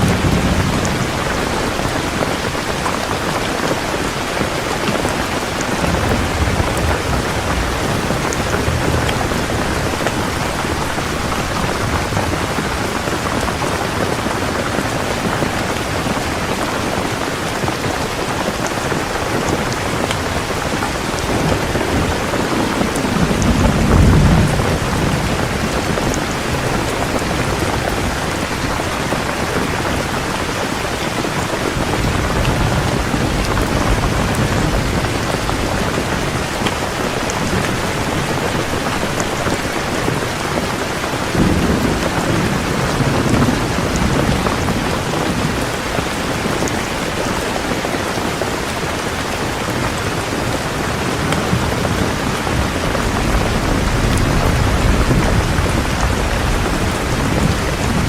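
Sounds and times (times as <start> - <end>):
distant thunder rumbling: 0.0 - 46.8, 51.2 - 58.0
heavy rain pouring: 0.0 - 58.0.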